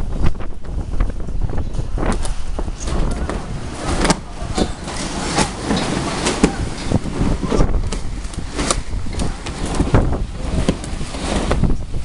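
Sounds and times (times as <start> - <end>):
wind gusting on microphone: 0.0 - 12.0.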